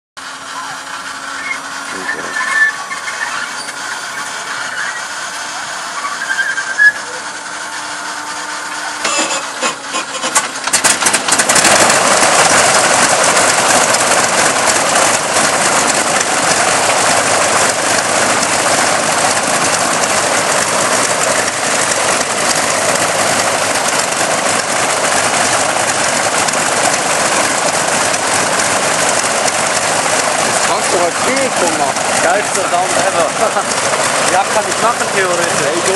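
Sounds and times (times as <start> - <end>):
radial engine starting: 0.2 - 35.9.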